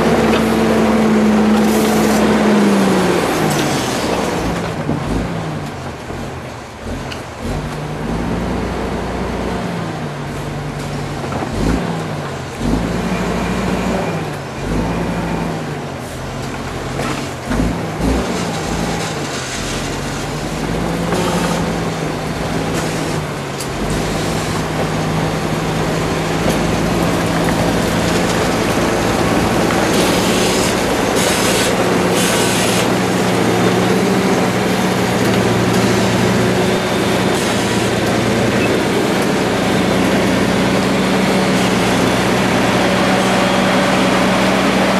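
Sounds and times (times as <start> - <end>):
large engine running: 0.0 - 44.9.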